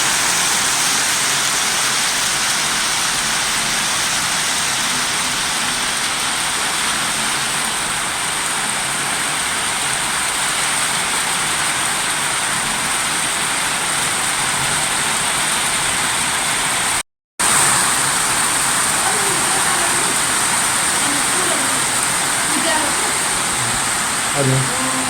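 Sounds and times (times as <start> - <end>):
torrential water rushing: 0.0 - 25.0.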